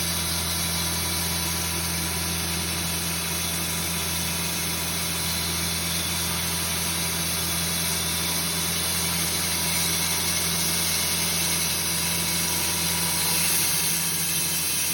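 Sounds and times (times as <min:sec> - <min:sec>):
engine running steadily: 0:00.0 - 0:14.9.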